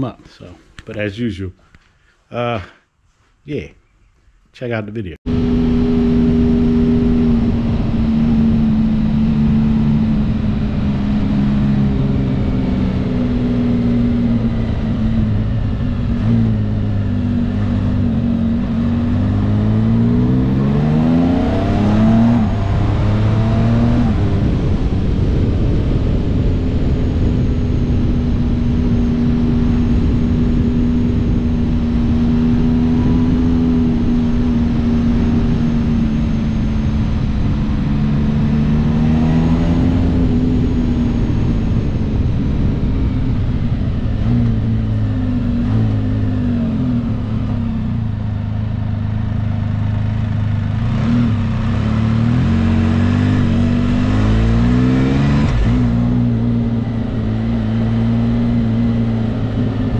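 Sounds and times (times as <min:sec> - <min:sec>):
wind noise: 0:05.3 - 0:49.3, 0:50.6 - 0:59.9
motorcycle engine cruising and revving: 0:05.3 - 0:59.9.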